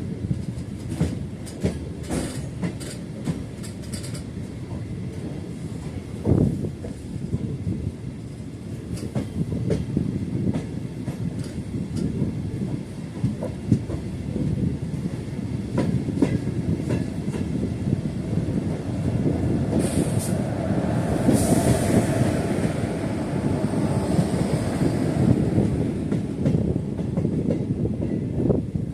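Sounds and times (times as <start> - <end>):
train rumbling on rails: 0.0 - 28.9.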